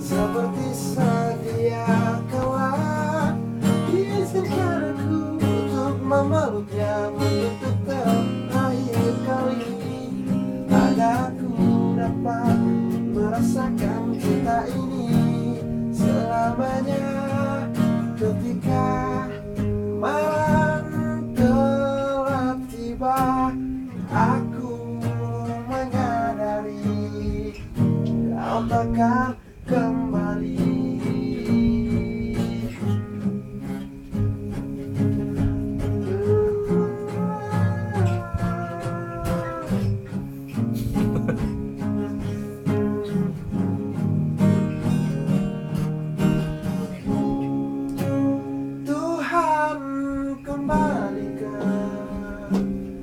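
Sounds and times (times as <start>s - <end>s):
acoustic guitar music: 0.0s - 53.0s.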